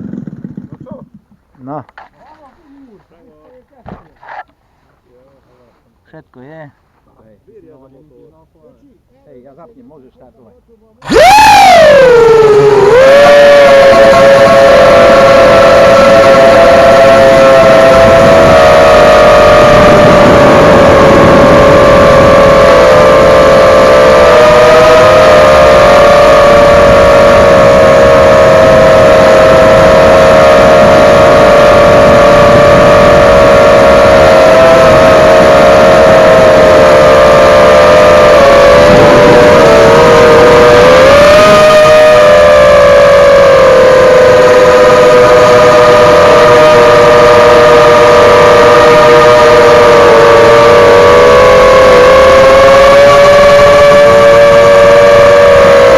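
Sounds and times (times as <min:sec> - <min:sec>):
quadcopter motors whining: 0:11.0 - 0:55.9.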